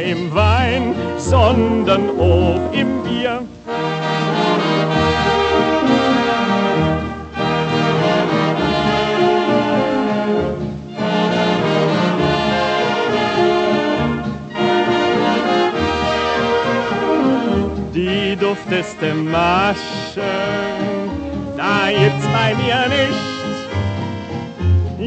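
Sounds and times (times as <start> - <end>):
waltz by dance orchestra: 0.0 - 25.0.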